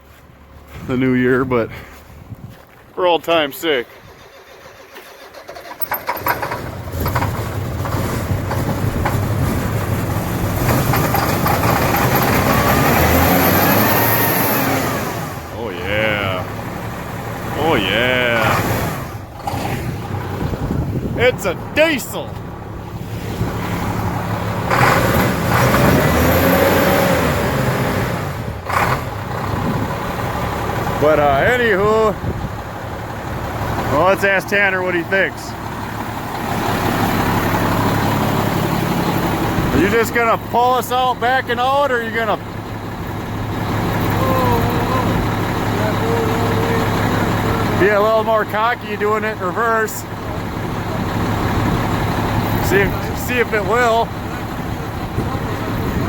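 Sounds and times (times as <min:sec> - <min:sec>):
diesel truck engine starting: 0:00.0 - 0:56.0.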